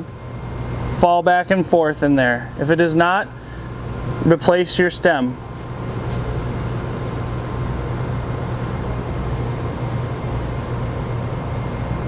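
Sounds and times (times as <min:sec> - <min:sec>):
low mechanical hum with hiss: 0:00.0 - 0:12.0.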